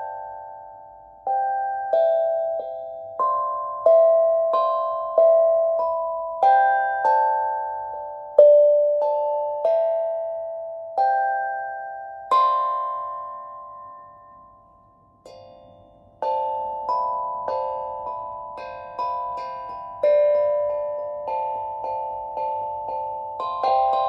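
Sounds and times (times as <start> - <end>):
plucked instrument melody: 0.0 - 24.0.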